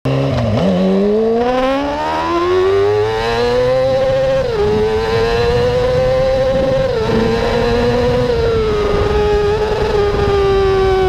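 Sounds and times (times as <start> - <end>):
motorcycle engine accelerating: 0.1 - 11.0.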